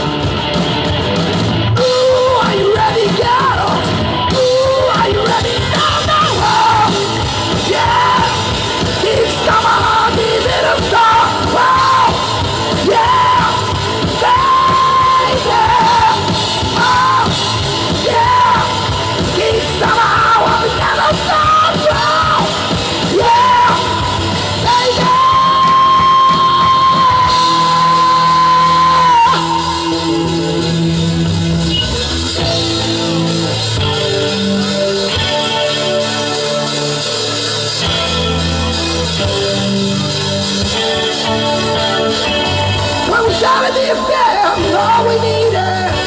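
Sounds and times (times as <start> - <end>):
live rock band playing: 0.0 - 46.0
singer singing and yelling: 0.0 - 46.0.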